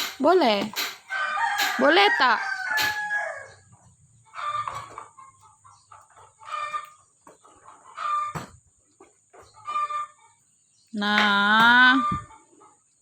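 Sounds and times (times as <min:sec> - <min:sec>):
chicken clucking: 0:00.6 - 0:13.0.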